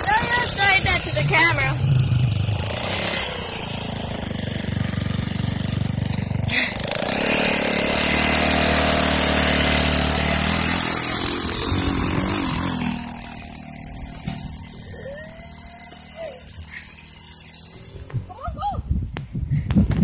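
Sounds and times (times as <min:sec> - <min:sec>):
go-kart engine revving: 0:00.0 - 0:18.5.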